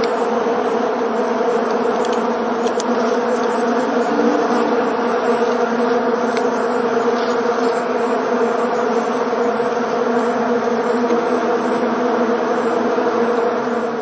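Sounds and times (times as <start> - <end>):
swarm of bees buzzing: 0.0 - 14.0.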